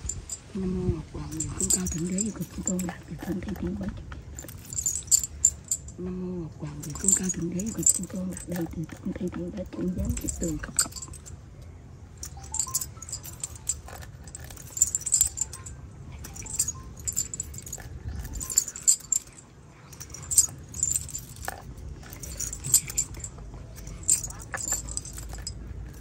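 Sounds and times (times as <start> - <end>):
light metallic jingling: 0.0 - 26.0.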